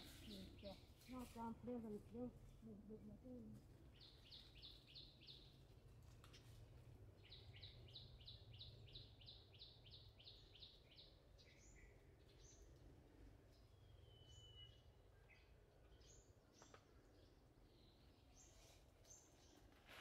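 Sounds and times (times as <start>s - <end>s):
songbird chirping: 0.0s - 5.7s, 7.2s - 20.0s.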